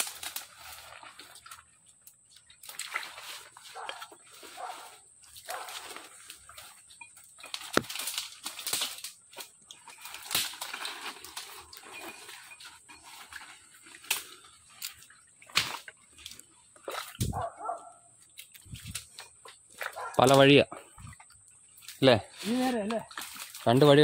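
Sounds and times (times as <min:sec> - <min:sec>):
footsteps squelching through mud: 0:00.0 - 0:24.0.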